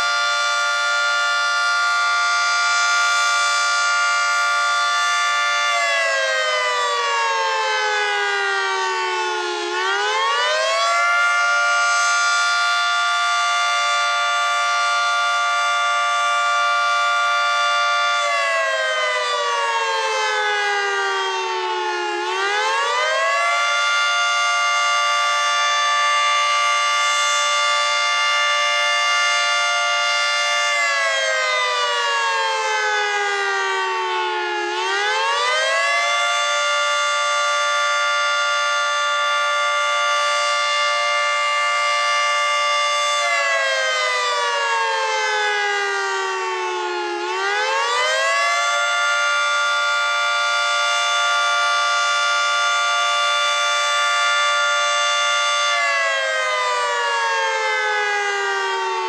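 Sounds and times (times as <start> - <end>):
warning siren wailing: 0.0 - 59.0.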